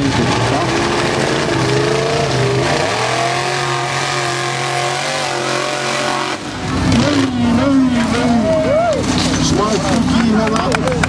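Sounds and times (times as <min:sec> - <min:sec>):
buggy engine revving high: 0:00.0 - 0:10.2.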